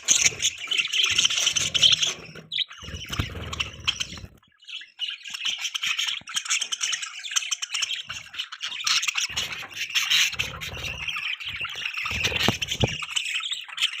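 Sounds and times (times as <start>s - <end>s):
budgies chirping and warbling: 0.0s - 14.0s.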